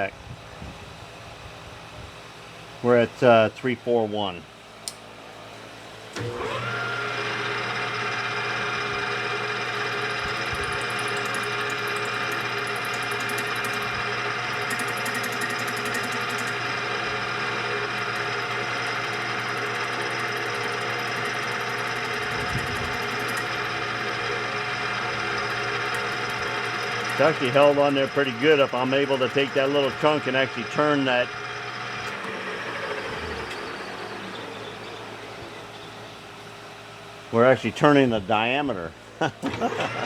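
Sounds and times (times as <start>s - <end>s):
metal lathe motor hum: 4.8s - 37.3s.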